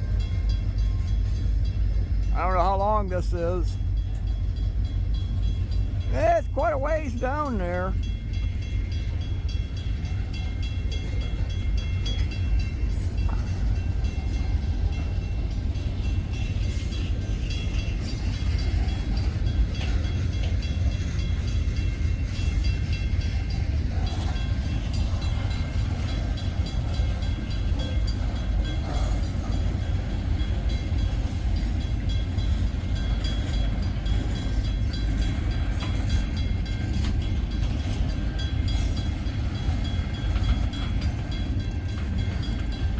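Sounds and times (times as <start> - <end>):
freight train rumbling: 0.0 - 42.9.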